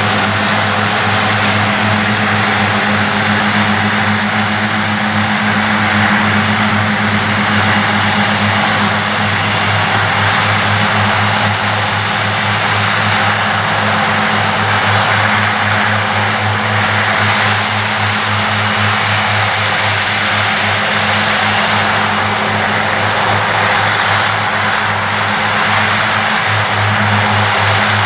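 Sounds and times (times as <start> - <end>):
diesel engine humming: 0.0 - 28.0
mower cutting grass hiss: 0.0 - 28.0.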